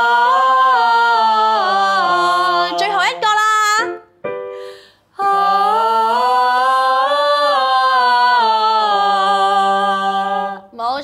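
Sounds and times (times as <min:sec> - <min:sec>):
people singing a sustained ah: 0:00.0 - 0:03.2, 0:04.6 - 0:10.8.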